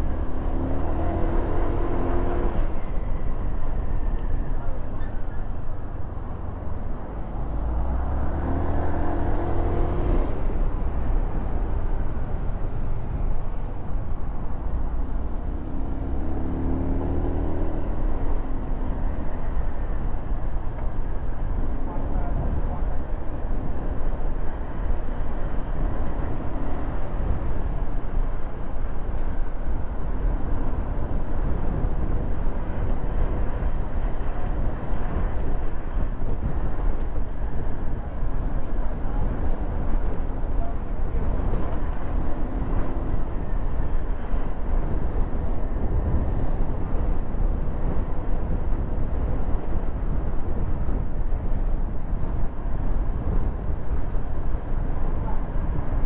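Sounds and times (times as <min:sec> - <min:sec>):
vehicle driving road rumble: 0:00.0 - 0:56.0.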